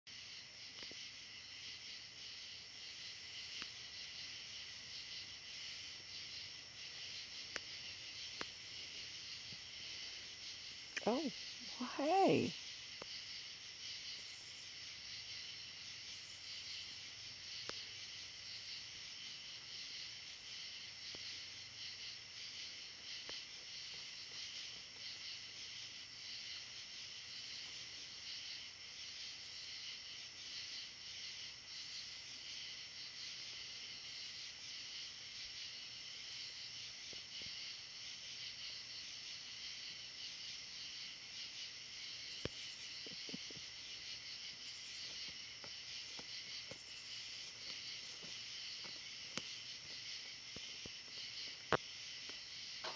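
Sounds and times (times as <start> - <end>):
faint ticks and rustles: 0.1 - 52.9
insect chorus trilling: 0.1 - 52.9.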